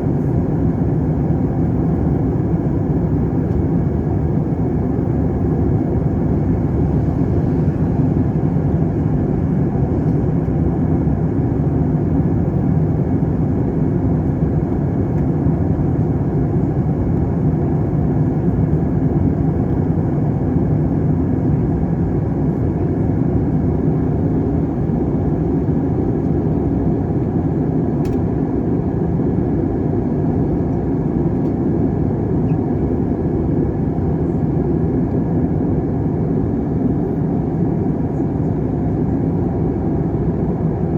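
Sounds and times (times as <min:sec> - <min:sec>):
jet airliner cabin roar: 0:00.0 - 0:40.9.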